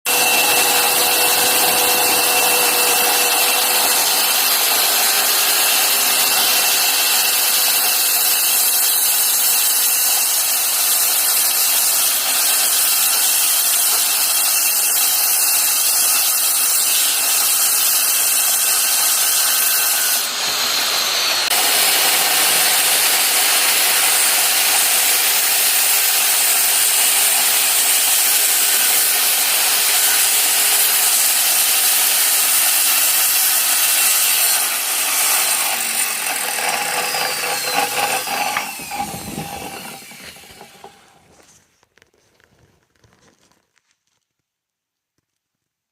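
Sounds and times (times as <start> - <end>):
power tool cutting wood: 0.1 - 41.4.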